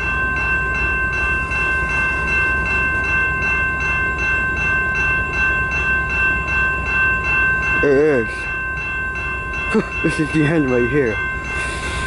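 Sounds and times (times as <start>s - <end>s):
crossing warning bell ringing: 0.0s - 12.0s.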